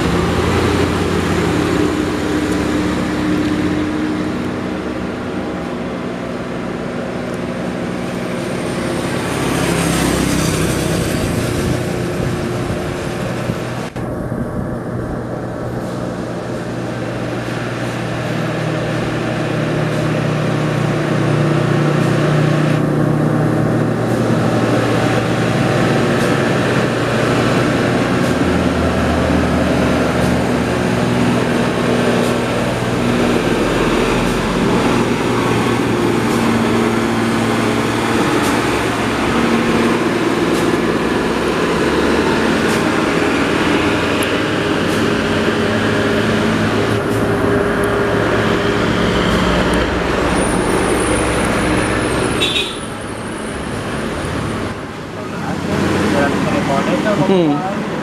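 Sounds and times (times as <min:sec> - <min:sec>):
diesel truck engine droning: 0:00.0 - 0:58.0
road traffic: 0:00.0 - 0:58.0.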